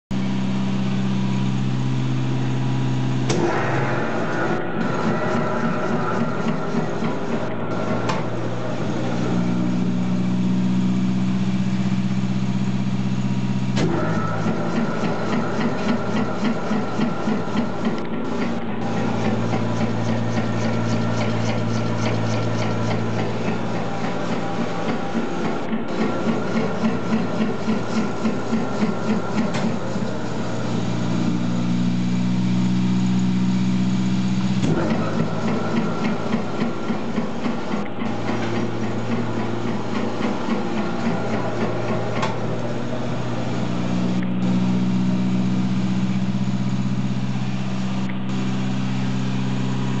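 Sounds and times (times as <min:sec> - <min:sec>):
motor humming: 0:00.2 - 0:50.0.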